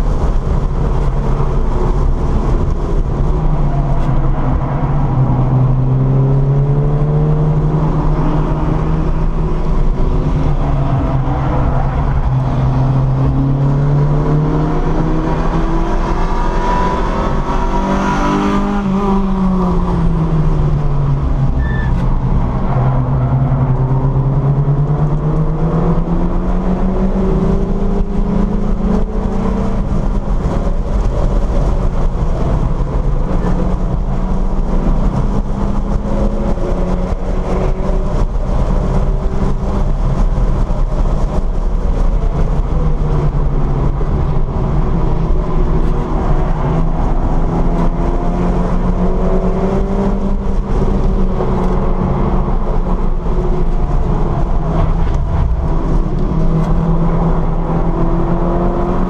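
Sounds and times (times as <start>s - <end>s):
car engine revving: 0.0s - 59.0s
road and wind noise: 0.0s - 59.0s.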